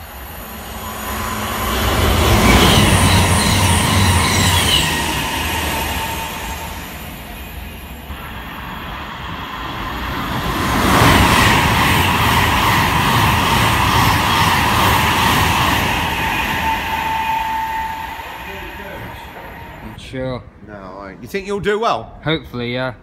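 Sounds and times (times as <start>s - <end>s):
train passing close by: 0.0s - 21.1s.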